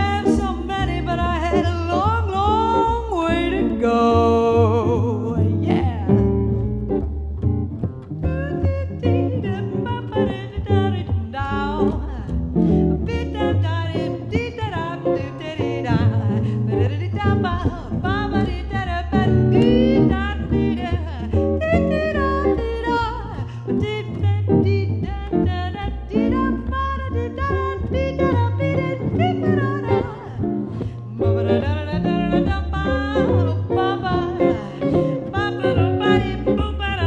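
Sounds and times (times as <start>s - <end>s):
person singing: 0.0s - 6.2s, 8.3s - 37.0s
double bass: 0.0s - 37.0s
guitar: 0.0s - 37.0s.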